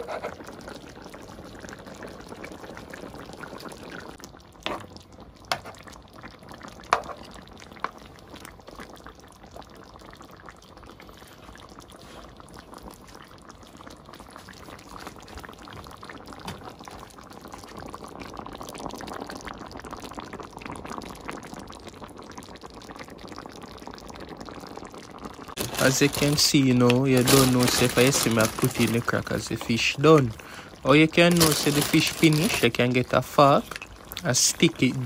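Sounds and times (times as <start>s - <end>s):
sauce bubbling in a frying pan: 0.0s - 35.0s.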